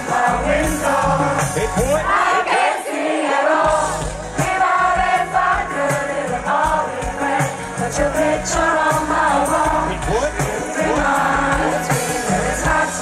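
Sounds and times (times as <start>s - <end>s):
audience singing along: 0.0s - 13.0s
hip-hop music with sung hook: 0.0s - 13.0s.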